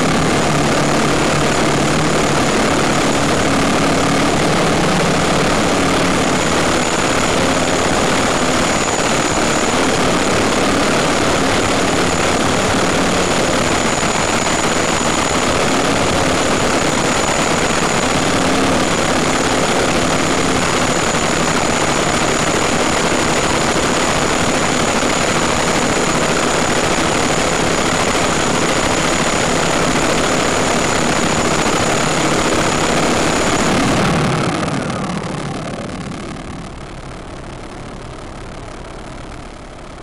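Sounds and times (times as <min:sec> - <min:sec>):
quadcopter motors and propellers: 0:00.0 - 0:40.0.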